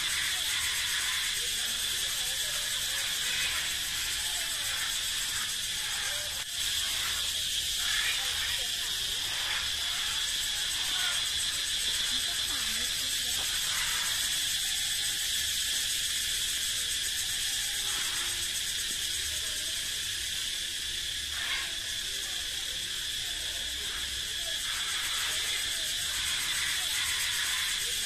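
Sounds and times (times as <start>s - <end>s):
cicadas singing: 0.0s - 28.0s.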